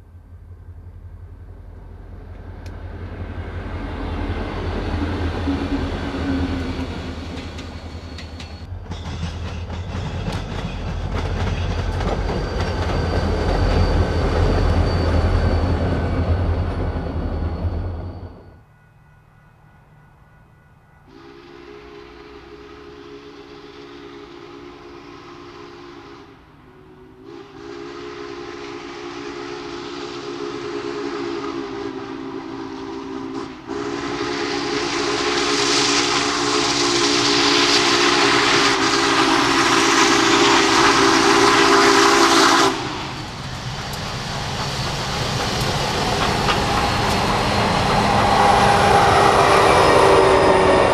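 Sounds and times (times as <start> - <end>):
diesel locomotives rumbling: 0.0 - 18.6, 21.0 - 50.9
steam locomotive chime whistle: 10.0 - 50.9.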